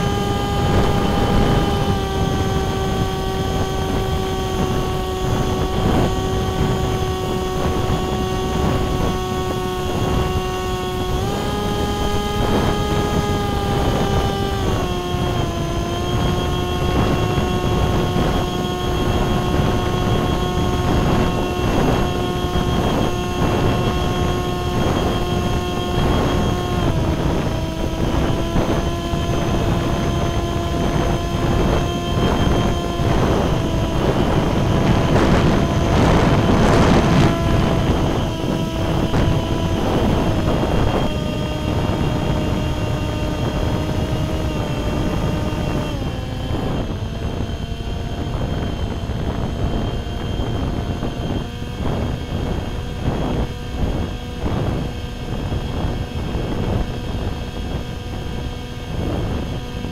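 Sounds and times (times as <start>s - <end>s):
electric motor and propeller whining: 0.0s - 59.9s
wind on microphone: 0.0s - 59.9s.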